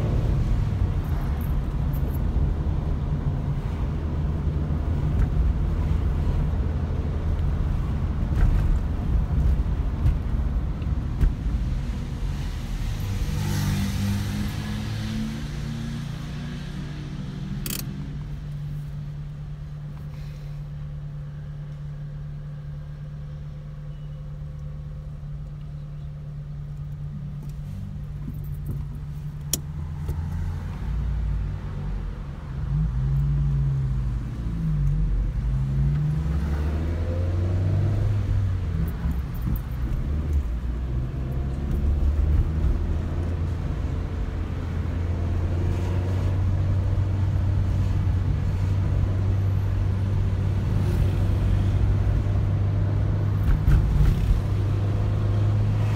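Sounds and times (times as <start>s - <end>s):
car engine idling and accelerating: 0.0s - 55.9s.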